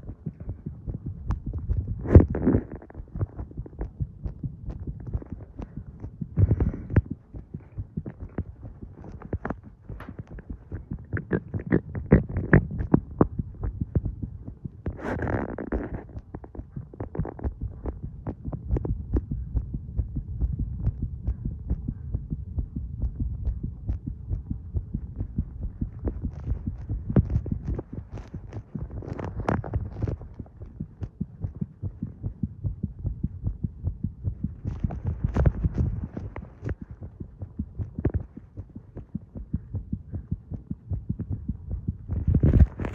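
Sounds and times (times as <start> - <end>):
heartbeat thumps: 0.0 - 42.9
low hum: 0.0 - 42.9.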